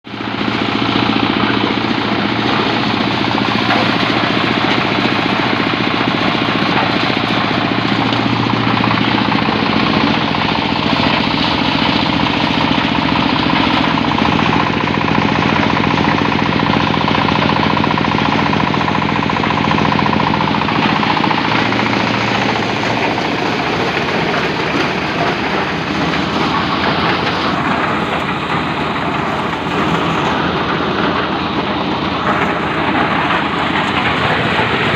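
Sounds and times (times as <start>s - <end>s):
engine drone: 0.0s - 34.9s
corn sheller rattling: 0.1s - 34.9s.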